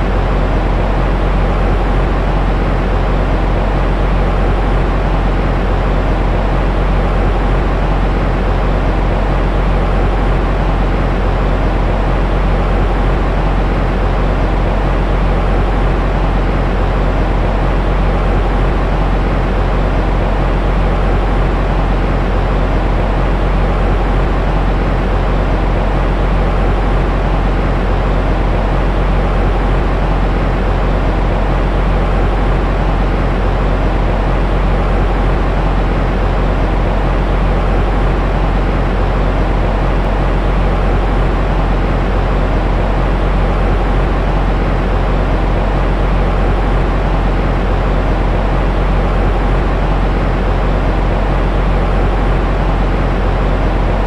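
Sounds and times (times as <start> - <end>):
deep white noise hiss: 0.0 - 54.0.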